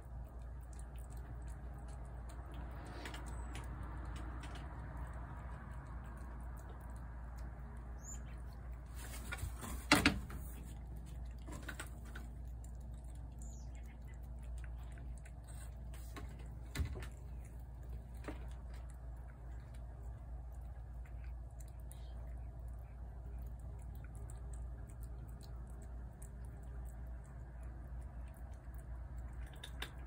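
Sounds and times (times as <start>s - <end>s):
cat chewing and licking: 0.0s - 30.0s
low hum: 0.0s - 30.0s.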